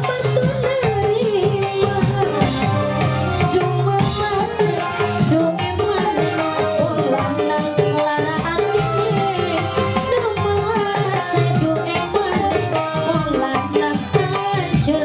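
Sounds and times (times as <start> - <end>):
band music through pa: 0.0 - 15.0
hand drum beat: 0.0 - 15.0.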